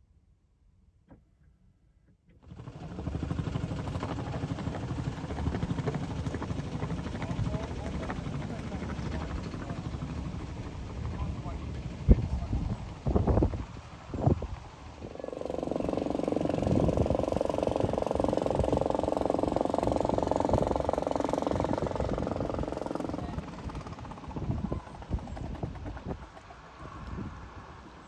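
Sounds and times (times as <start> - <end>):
boat engine drone: 2.5 - 12.2, 13.8 - 28.0.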